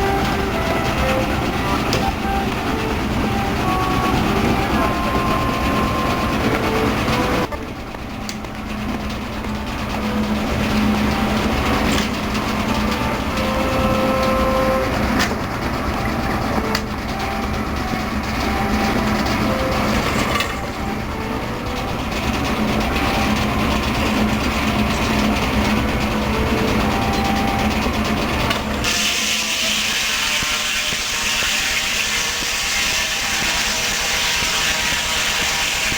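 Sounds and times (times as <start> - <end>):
steam tractor running: 0.0 - 35.9.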